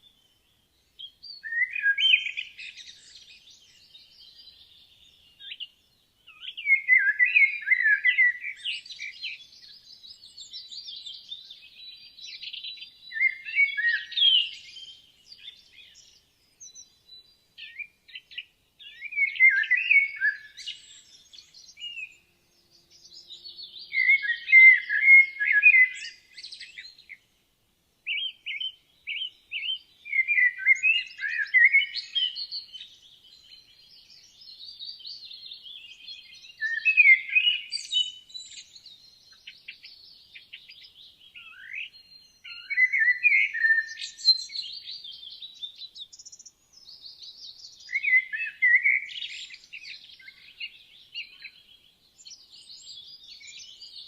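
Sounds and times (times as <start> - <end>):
songbirds warbling: 0.0 - 27.4, 28.0 - 54.0
faint bird chirps: 0.0 - 54.0.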